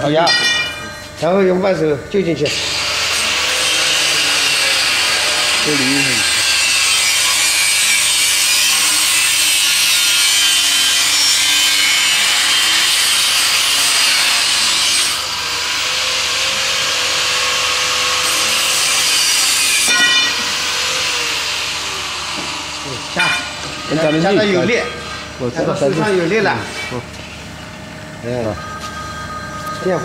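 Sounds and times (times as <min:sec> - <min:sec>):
pipe bending machine rasping: 0:02.5 - 0:27.7.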